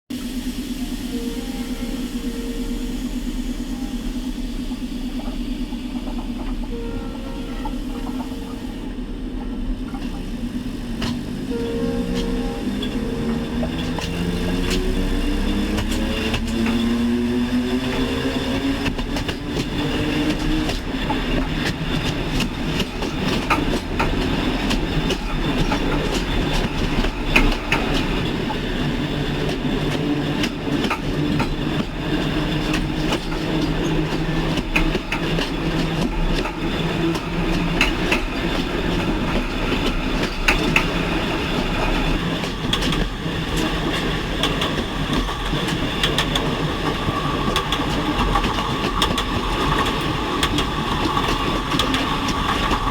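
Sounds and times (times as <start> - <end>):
train wheels rumbling on rails: 0.1 - 52.9
sharp track clicks: 5.1 - 52.9.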